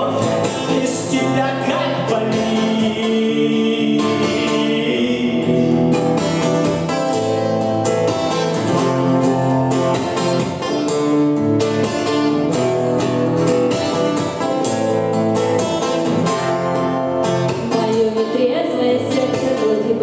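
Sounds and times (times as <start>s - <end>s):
pop song guitar strumming: 0.0s - 20.0s.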